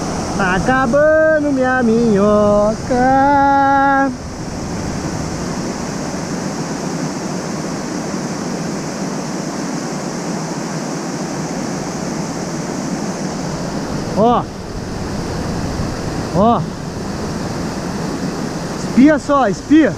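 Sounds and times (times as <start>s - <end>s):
waterfall rushing into pool: 0.0s - 19.9s.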